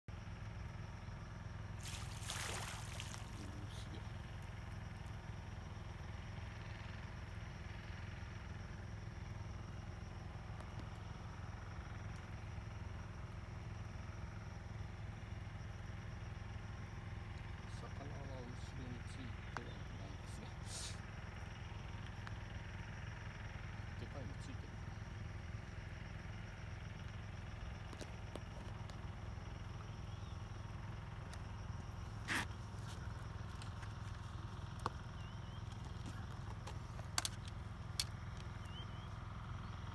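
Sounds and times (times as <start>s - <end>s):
low engine hum: 0.1s - 39.9s
faint high whine: 0.2s - 37.3s, 38.0s - 39.9s.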